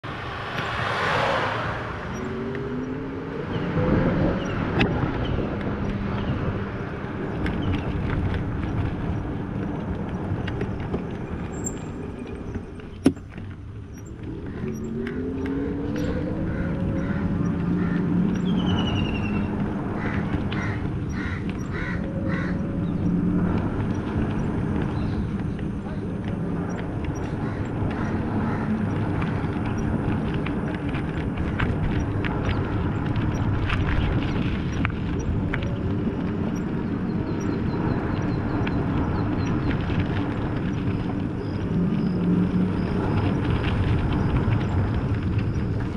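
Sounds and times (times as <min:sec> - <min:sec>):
road and wind noise: 0:00.0 - 0:45.9
vehicle engine accelerating: 0:00.0 - 0:45.9.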